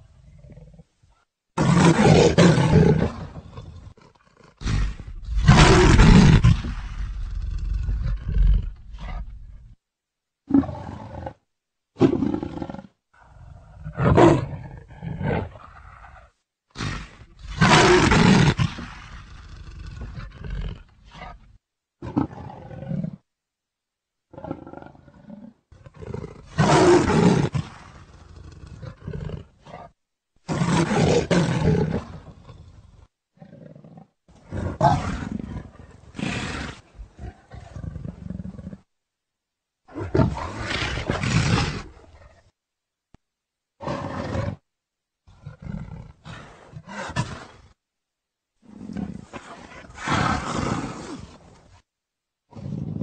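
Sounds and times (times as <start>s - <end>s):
leopard roaring: 1.6s - 9.8s, 12.0s - 23.2s, 24.3s - 38.8s, 39.9s - 42.5s, 43.8s - 44.6s, 45.3s - 47.8s, 48.6s - 51.6s.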